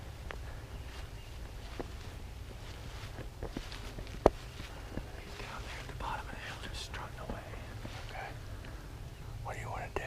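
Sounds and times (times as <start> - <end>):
footsteps through ground cover: 0.0 - 8.4
low steady rumble: 0.0 - 10.0.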